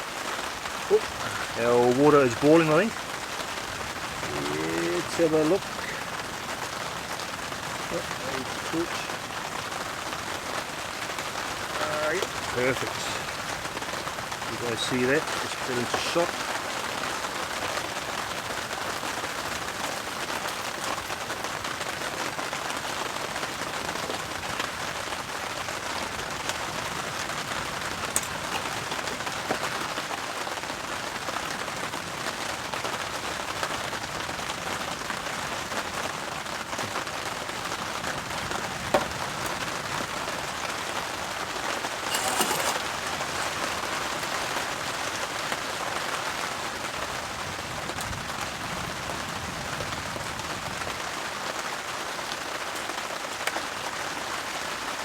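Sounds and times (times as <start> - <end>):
rain falling on a tarp: 0.0 - 55.0.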